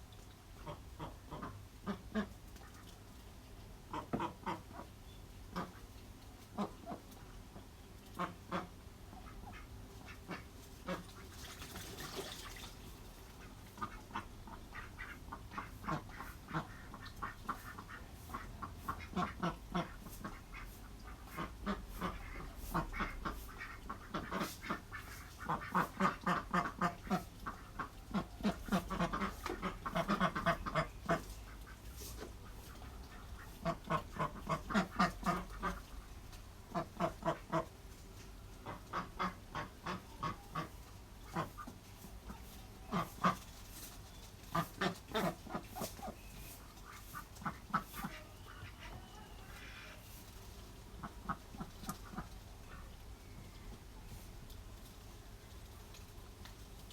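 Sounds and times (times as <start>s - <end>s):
ducks quacking: 0.6s - 3.0s, 3.9s - 4.9s, 5.5s - 5.9s, 6.5s - 11.4s, 13.3s - 37.8s, 38.6s - 43.8s, 44.5s - 50.2s, 50.9s - 53.0s.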